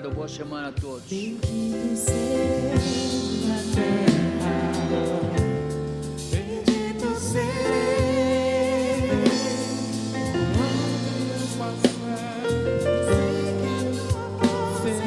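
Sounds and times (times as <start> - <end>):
band with drums: 0.0 - 15.0
gospel song singing voices: 0.0 - 15.0.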